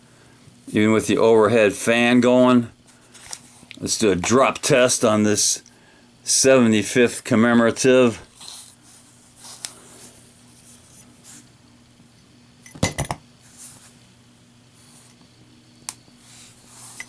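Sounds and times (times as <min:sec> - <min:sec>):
overhead fan hum: 0:00.0 - 0:17.0.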